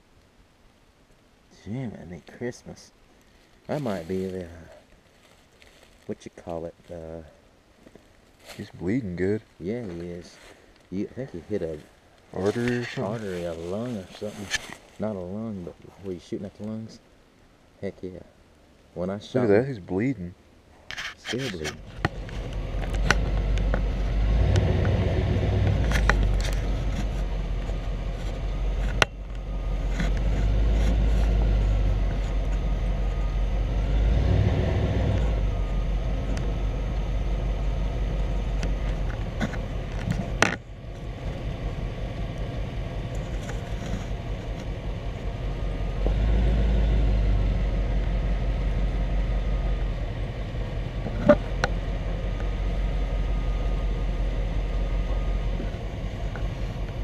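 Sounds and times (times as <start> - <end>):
truck engine and road rumble: 1.6 - 17.3, 17.9 - 57.0.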